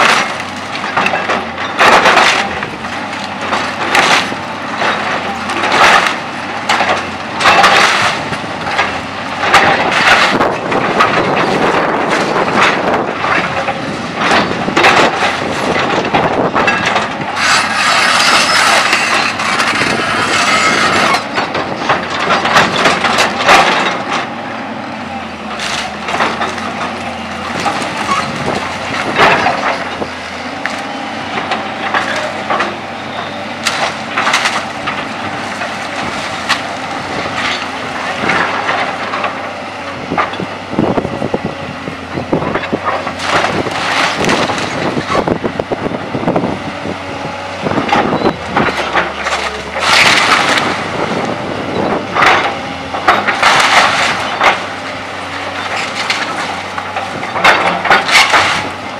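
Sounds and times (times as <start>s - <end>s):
wood cracking and splintering: 0.0s - 24.4s, 25.2s - 32.9s, 33.5s - 41.4s, 42.2s - 58.9s
diesel engine running: 0.0s - 58.9s.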